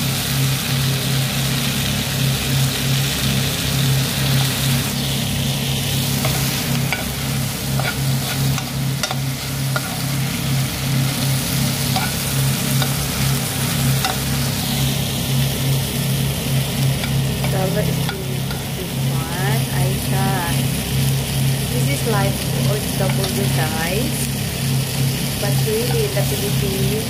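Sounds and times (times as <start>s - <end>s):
liver sizzling in a pan: 0.0s - 27.0s
steady low hum: 0.0s - 27.0s.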